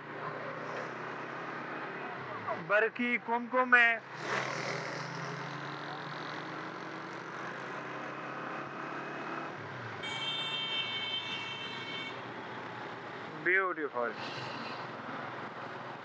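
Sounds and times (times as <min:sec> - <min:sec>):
road and traffic noise: 0:00.0 - 0:16.0.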